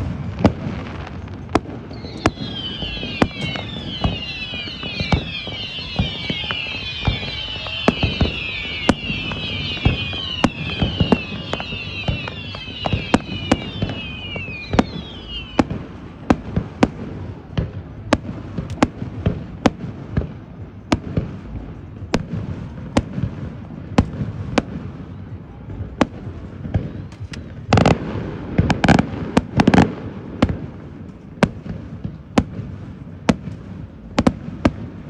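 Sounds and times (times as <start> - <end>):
firework bangs and cracks: 0.0 - 35.0
whistling fireworks: 0.0 - 35.0.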